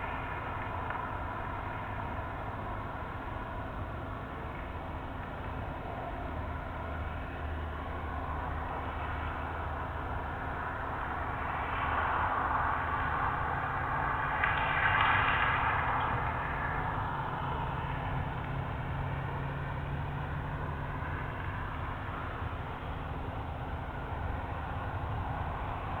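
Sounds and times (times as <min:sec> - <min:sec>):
rumbling drone: 0:00.0 - 0:26.0.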